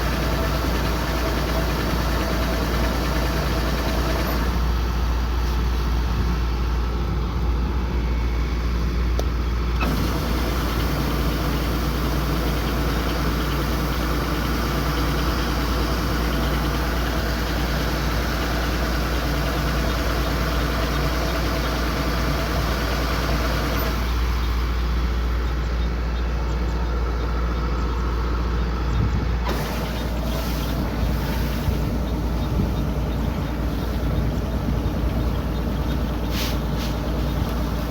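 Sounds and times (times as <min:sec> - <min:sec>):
combine harvester running: 0:00.0 - 0:37.9.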